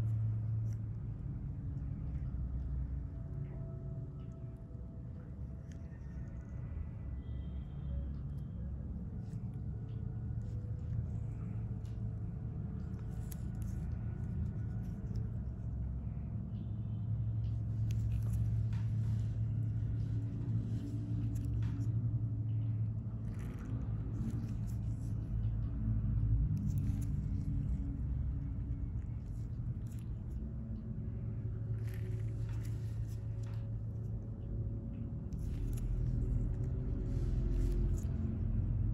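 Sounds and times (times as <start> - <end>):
faint clicks and ticks: 0.0 - 38.9
low rumbling hum: 0.0 - 38.9.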